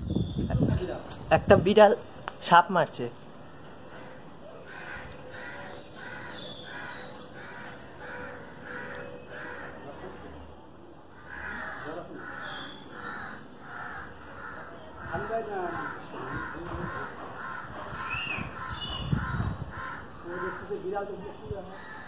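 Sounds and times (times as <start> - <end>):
bird harsh calls: 3.4 - 22.0.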